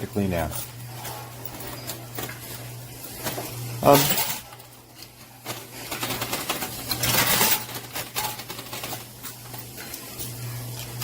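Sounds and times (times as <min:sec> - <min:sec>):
coins clinking in arcade machine: 0:00.0 - 0:11.0
machine low hum: 0:00.0 - 0:11.0.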